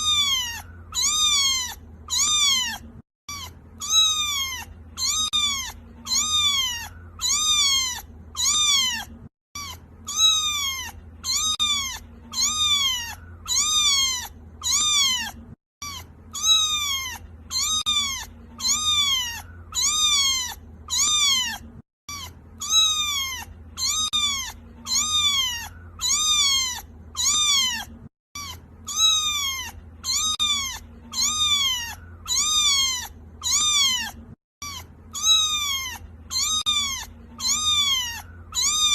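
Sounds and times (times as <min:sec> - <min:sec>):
kitten meowing: 0:00.0 - 0:38.9.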